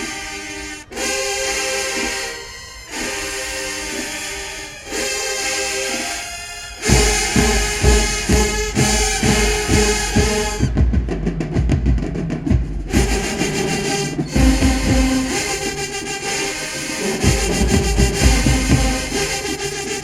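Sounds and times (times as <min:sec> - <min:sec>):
brass chords: 0:00.0 - 0:20.0
marching drum strokes: 0:00.0 - 0:20.0.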